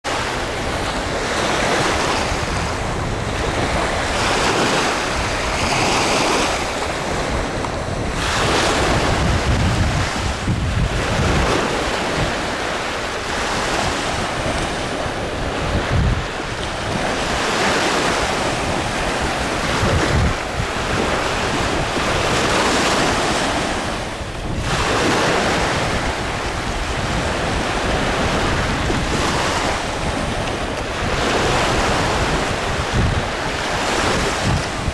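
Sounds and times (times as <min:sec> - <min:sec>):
small waves washing on shore: 0:00.0 - 0:34.9
wind buffeting microphone: 0:00.0 - 0:34.9.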